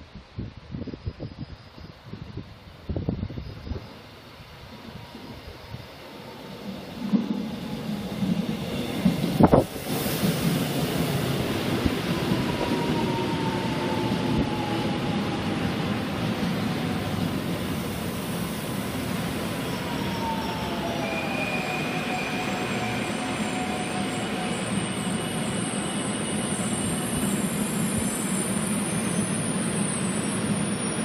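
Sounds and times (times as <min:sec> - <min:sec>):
train wheels rumbling on rail: 0:01.9 - 0:31.0.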